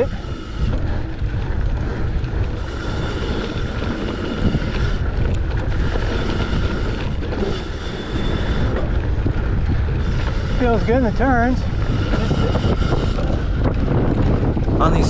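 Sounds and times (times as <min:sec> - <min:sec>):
bike tyres rolling on dirt trail: 0:00.0 - 0:15.0
wind on microphone: 0:00.0 - 0:15.0.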